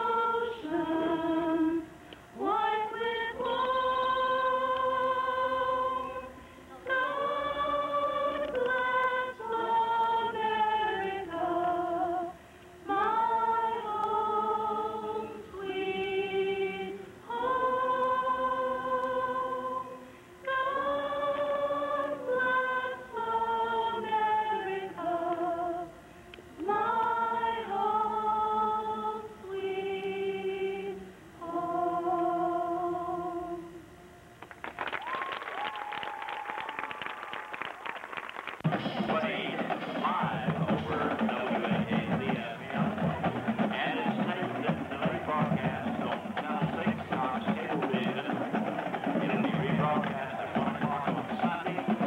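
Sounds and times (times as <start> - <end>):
choir singing in harmony: 0.0 - 26.0, 26.6 - 33.9, 38.6 - 52.0.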